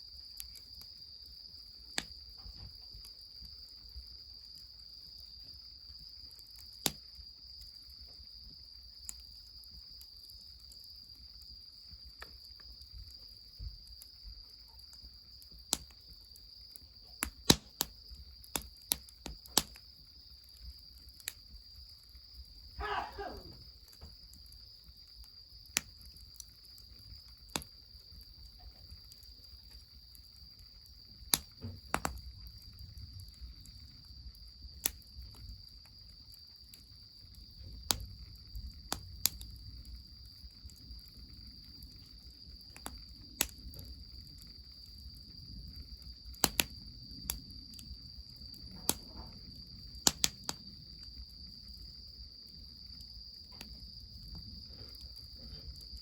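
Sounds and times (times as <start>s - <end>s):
insects chirring: 0.0s - 56.0s
wood fire crackling: 0.0s - 56.0s.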